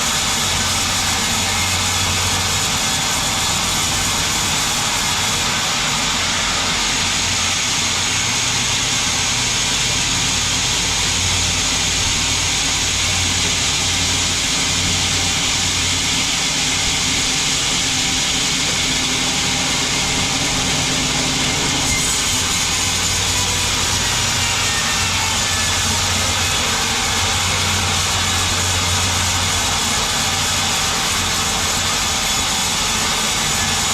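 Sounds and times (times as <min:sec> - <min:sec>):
loud even hiss: 0:00.0 - 0:33.9.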